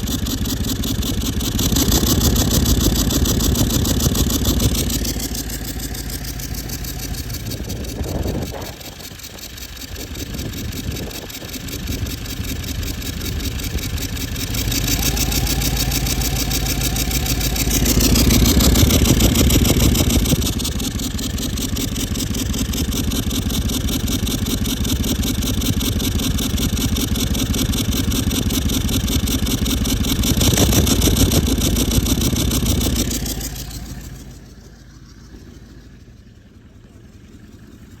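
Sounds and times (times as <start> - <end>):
diesel engine revving: 0.0 - 35.9
high turbo whine: 0.0 - 38.0.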